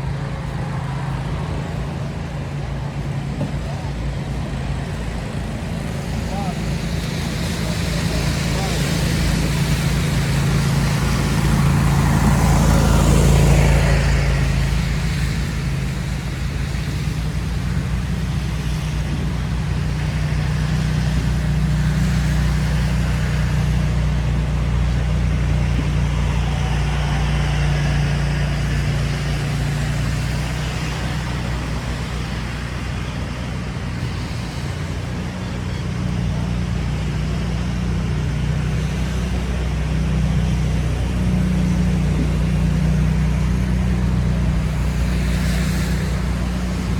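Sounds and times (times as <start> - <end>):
car passing: 0.0 - 46.9
traffic engine hum: 0.0 - 46.9.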